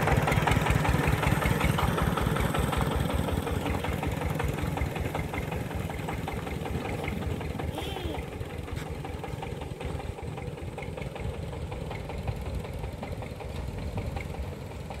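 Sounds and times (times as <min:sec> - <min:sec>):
old diesel engine chugging: 0:00.0 - 0:15.0.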